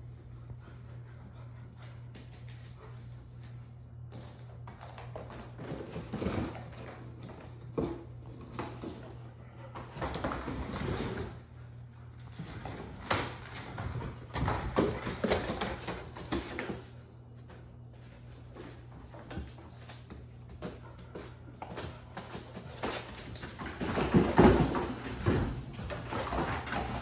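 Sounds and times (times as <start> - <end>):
steady low hum: 0.0 - 27.0
puppies scuffling on cardboard: 1.8 - 27.0.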